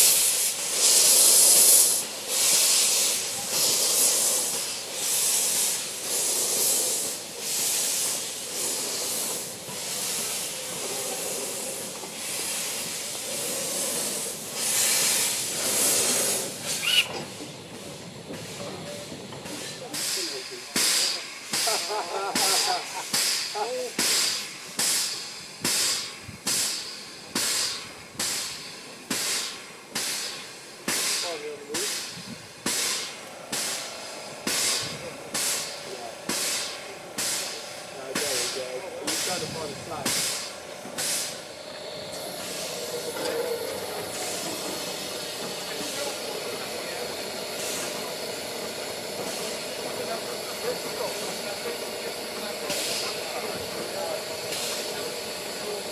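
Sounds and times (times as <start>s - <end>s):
sharp steam hiss: 0.0s - 55.9s
steam locomotive chuffing: 0.0s - 55.9s.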